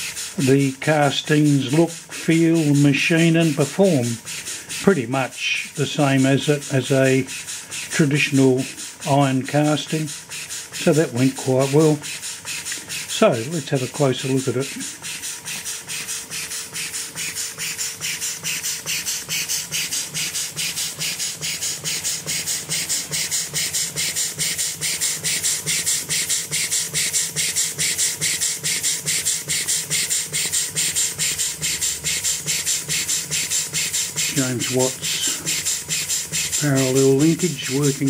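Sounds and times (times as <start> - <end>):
model steam engine chuffing: 0.0 - 38.0.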